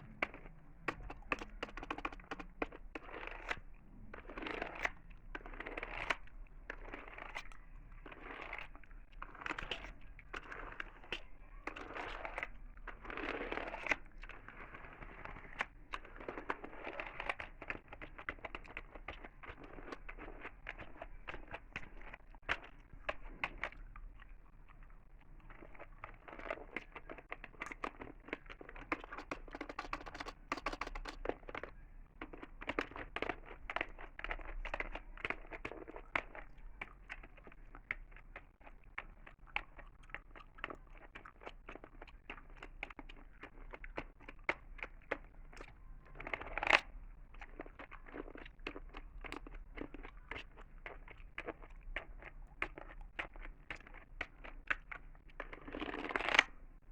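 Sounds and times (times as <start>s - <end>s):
gum chewing wet clicks: 0.2s - 56.6s.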